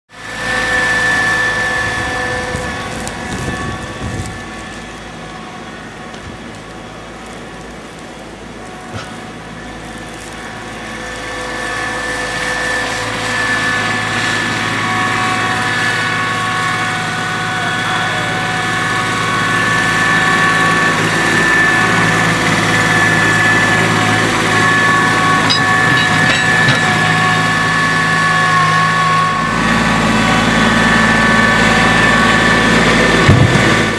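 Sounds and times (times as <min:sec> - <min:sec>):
high steady whine: 0:00.1 - 0:33.9
tractor diesel engine running: 0:00.1 - 0:33.9.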